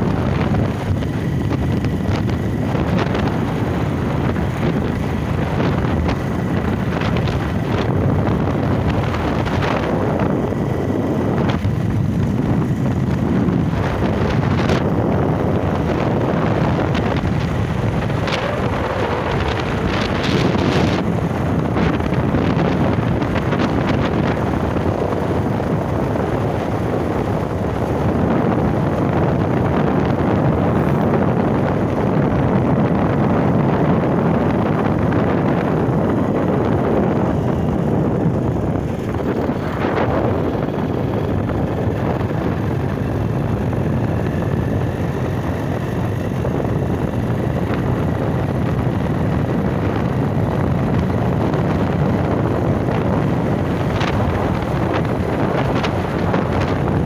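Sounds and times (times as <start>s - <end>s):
motorcycle engine cruising: 0.0s - 57.0s
wind buffeting microphone: 0.0s - 57.0s.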